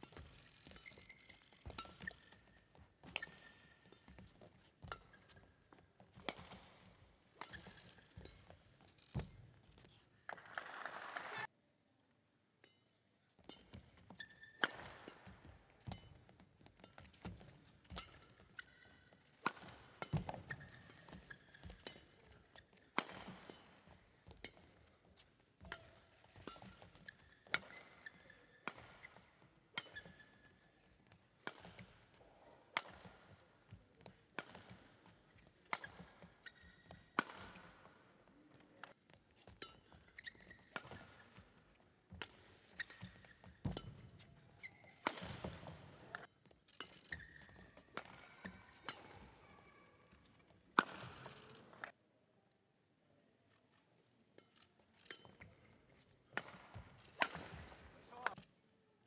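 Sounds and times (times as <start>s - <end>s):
racket hitting shuttlecock: 0.0s - 9.4s, 13.4s - 49.3s, 50.4s - 51.8s, 56.0s - 58.4s
shoes squeaking on floor: 0.0s - 10.2s, 13.5s - 51.9s.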